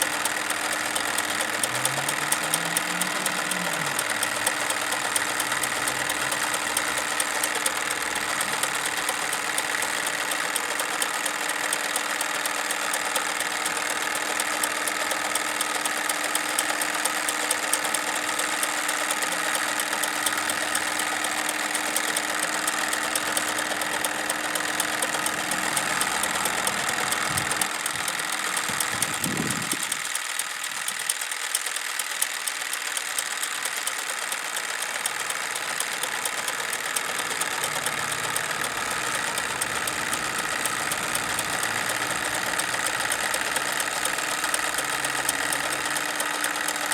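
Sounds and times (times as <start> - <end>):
toy steam engine ticking: 0.0 - 46.9.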